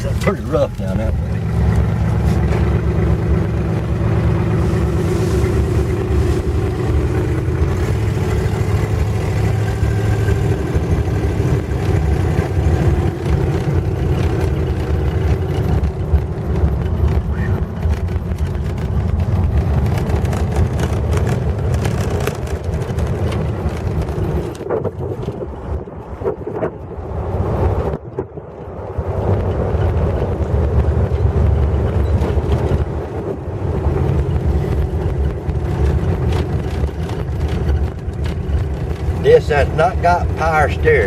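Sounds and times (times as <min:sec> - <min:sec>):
car engine running: 0:00.0 - 0:41.0
road noise: 0:00.0 - 0:41.0.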